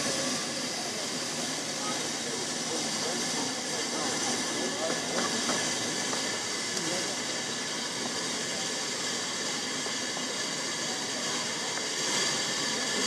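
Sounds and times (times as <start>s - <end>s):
steam hissing: 0.0s - 13.0s
steam locomotive running slowly: 0.0s - 13.0s.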